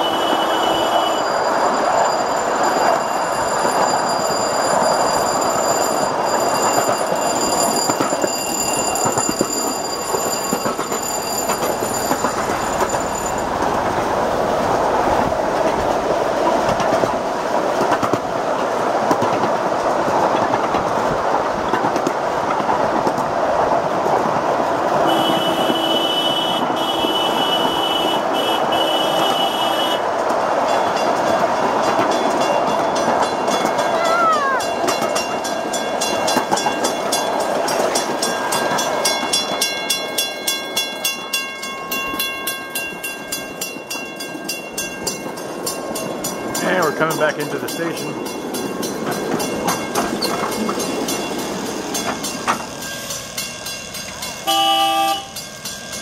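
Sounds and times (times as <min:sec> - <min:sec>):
miniature train rumble and clatter: 0:00.0 - 0:56.0.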